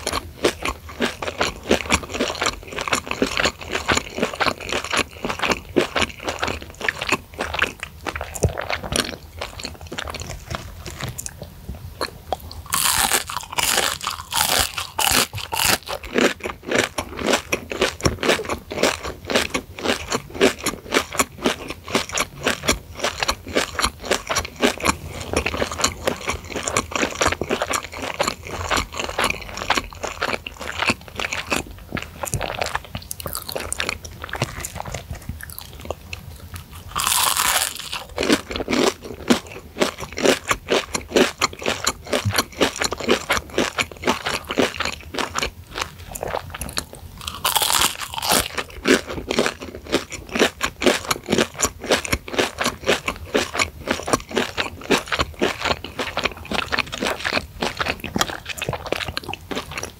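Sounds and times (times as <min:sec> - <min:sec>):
crispy food crunching: 0:00.0 - 0:59.9.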